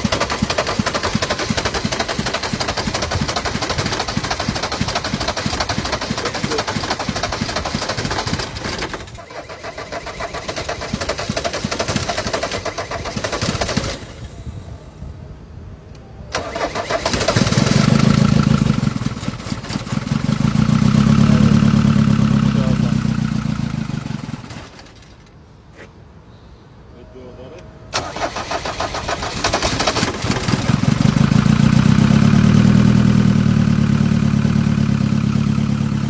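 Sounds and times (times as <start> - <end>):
diesel engine cranking: 0.0 - 14.8, 16.3 - 25.4, 27.9 - 36.0
diesel engine running: 0.0 - 14.9, 16.3 - 25.3, 27.9 - 36.0.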